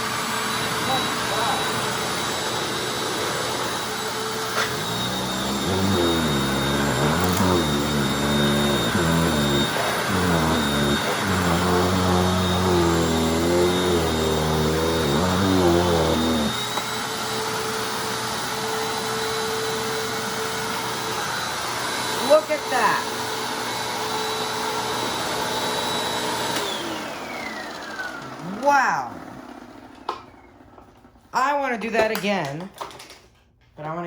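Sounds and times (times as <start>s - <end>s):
vacuum cleaner motor whine: 0.0s - 31.2s.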